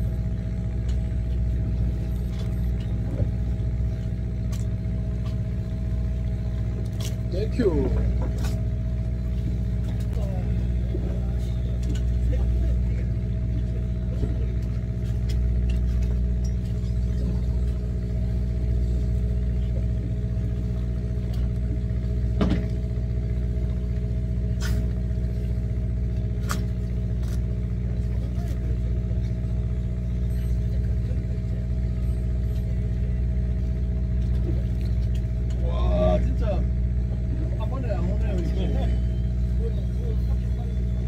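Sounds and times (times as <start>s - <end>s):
boat engine humming: 0.0s - 41.0s.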